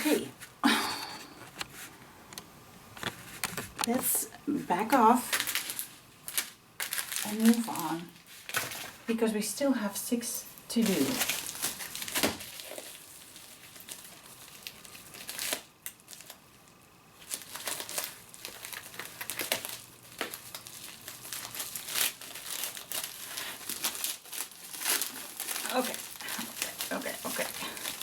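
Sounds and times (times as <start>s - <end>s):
plastic packaging crinkling: 3.0s - 9.2s, 10.4s - 28.0s.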